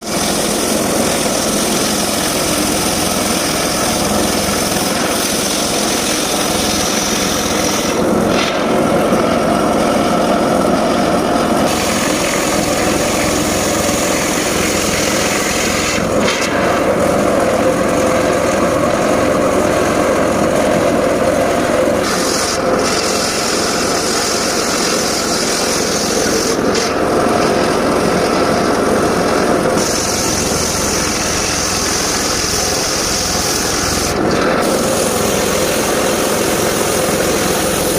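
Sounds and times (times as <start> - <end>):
circular saw cutting wood: 0.0 - 37.9.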